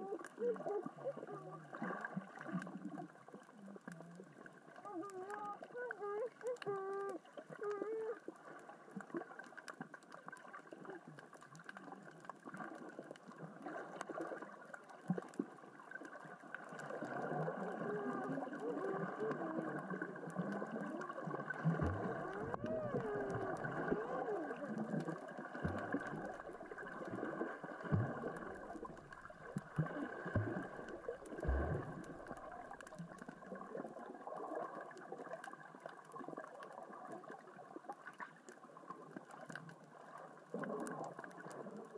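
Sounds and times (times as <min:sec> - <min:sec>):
rocks rolling underwater: 0:00.0 - 0:41.9.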